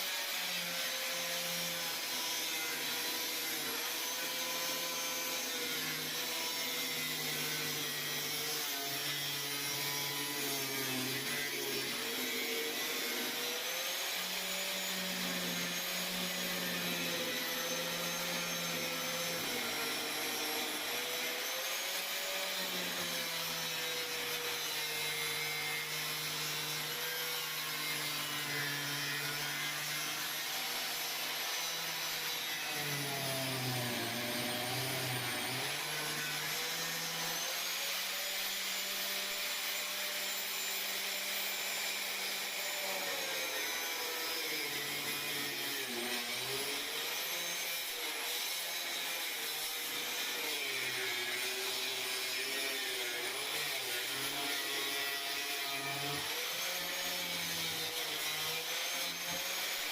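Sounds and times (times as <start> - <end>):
electric power tool motor running: 0.0 - 59.9.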